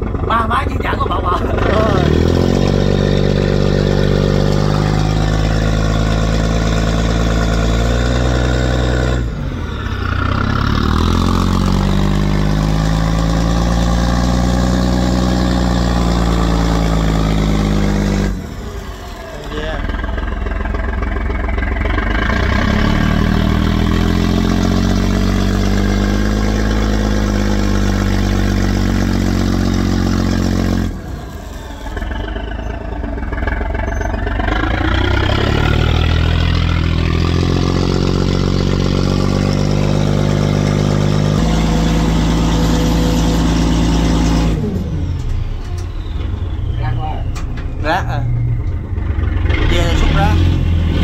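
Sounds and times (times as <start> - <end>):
boat engines revving: 0.0 - 51.0.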